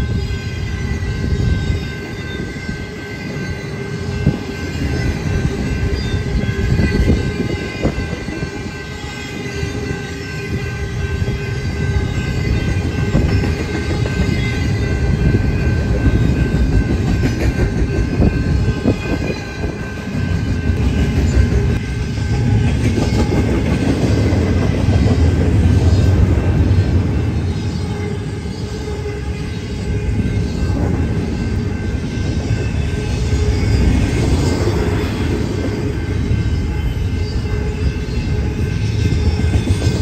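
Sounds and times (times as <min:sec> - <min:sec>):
high ringing tone: 0:00.0 - 0:23.5, 0:25.7 - 0:40.0
freight train rumbling past: 0:00.0 - 0:40.0.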